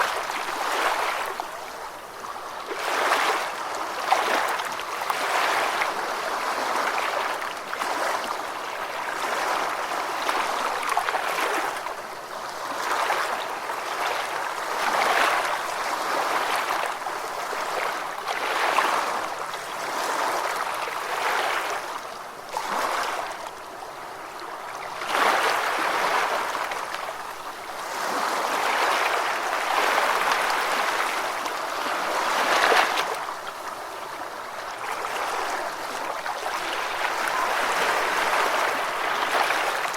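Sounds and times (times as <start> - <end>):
ocean waves washing onto beach: 0.0 - 39.9.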